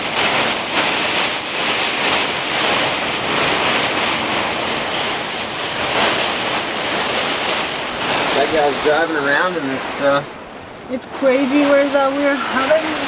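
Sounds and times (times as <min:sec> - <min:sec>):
heavy rain: 0:00.0 - 0:13.0
wind: 0:00.0 - 0:13.0.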